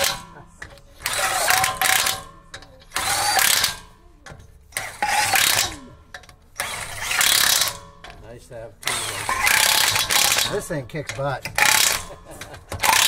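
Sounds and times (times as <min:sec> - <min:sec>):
impact wrench whining and hammering: 0:00.0 - 0:13.0.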